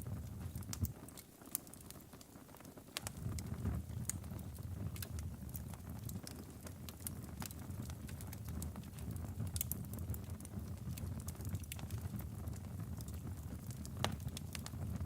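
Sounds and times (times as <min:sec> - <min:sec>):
fire rumbling: 0:00.0 - 0:15.0
wood crackling and popping: 0:00.0 - 0:15.0.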